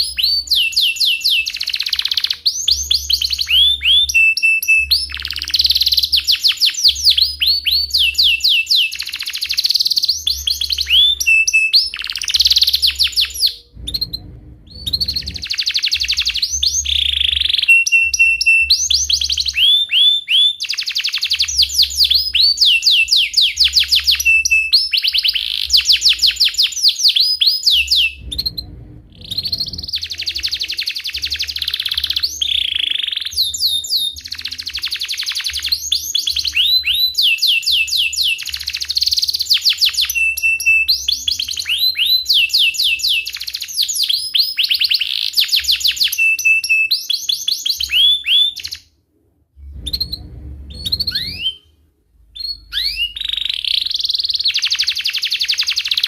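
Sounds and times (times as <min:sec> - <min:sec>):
canary singing trills: 0:00.0 - 0:48.8, 0:49.7 - 0:51.7.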